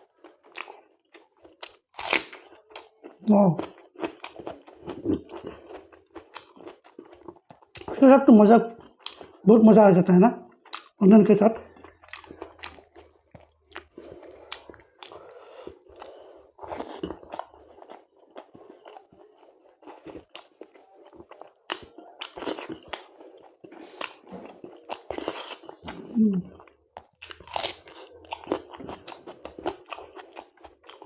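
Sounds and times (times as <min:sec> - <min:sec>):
crisp chewing crunches: 0:00.0 - 0:08.0, 0:11.6 - 0:31.0.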